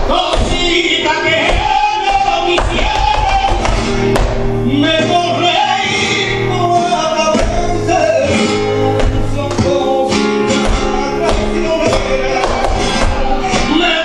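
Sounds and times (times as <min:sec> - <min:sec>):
flamenco guitar: 0:00.0 - 0:14.0.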